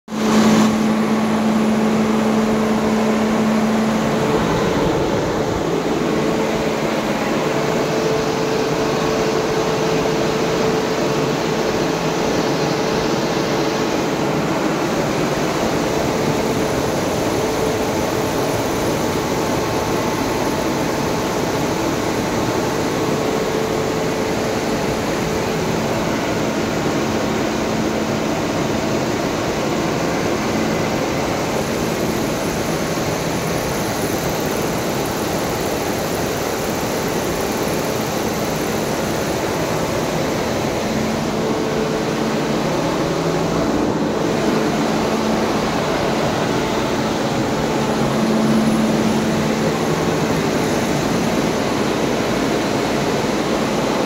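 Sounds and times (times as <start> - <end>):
diesel engine running: 0.2 - 54.0.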